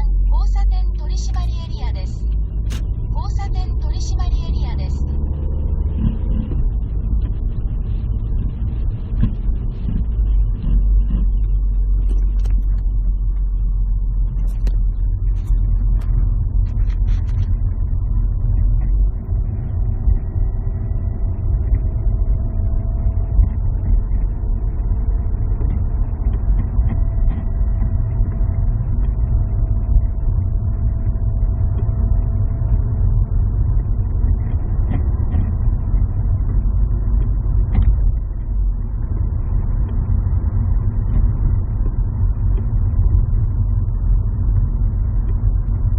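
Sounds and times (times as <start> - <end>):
car driving with low rumble: 0.0 - 45.9
faint whining tone: 0.0 - 45.9.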